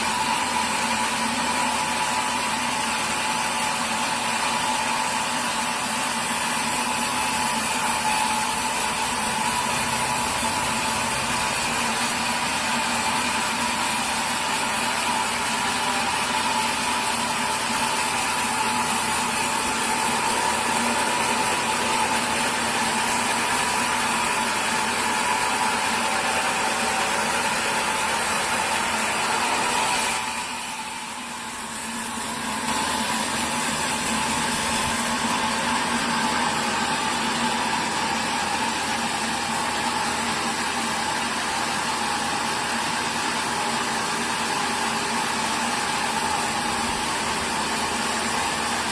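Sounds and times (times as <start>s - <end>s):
sawmill machinery humming: 0.0s - 48.9s.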